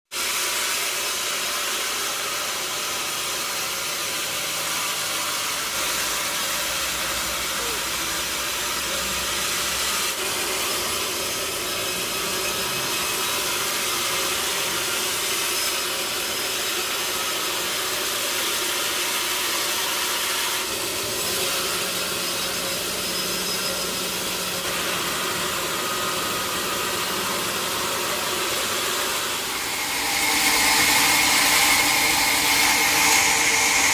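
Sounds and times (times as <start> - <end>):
sawmill machinery hissing: 0.1 - 33.9.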